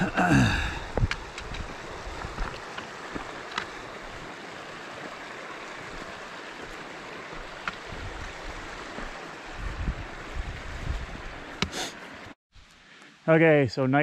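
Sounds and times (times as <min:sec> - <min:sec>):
creek running over rocks: 0:00.0 - 0:13.6.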